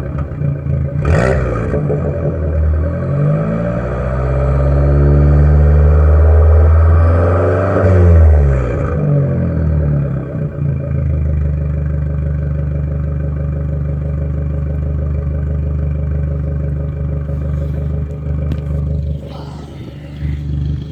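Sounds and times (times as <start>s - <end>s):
car engine idling: 0.0s - 5.1s, 8.4s - 20.9s.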